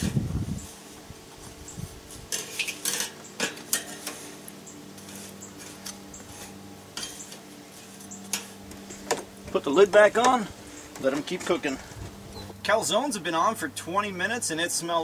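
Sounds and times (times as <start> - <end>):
metal spatula scraping grill grate: 0.0 - 12.0.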